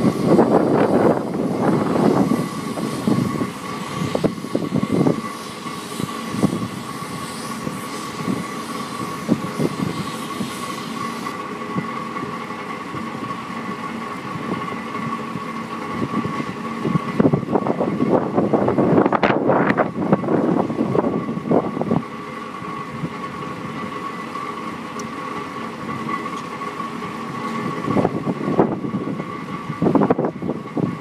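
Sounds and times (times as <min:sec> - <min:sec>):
truck engine whining: 0:00.0 - 0:31.0.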